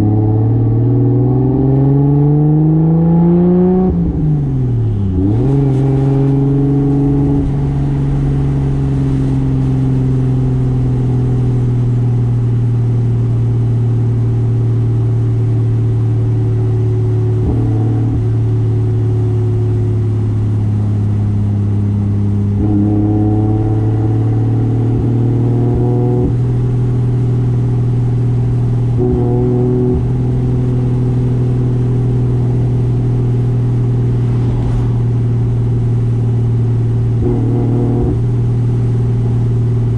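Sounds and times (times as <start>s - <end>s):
car engine running: 3.4s - 39.9s.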